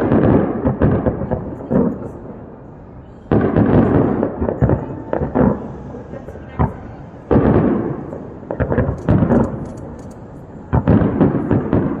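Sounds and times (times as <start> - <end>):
fireworks bangs: 0.0 - 2.6, 3.3 - 12.0.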